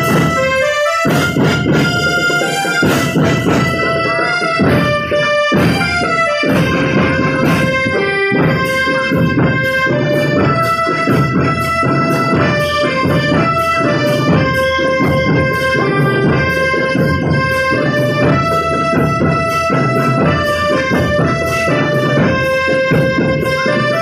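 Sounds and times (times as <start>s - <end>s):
melody of held notes: 0.0s - 24.0s
snare and bass drums: 0.0s - 24.0s.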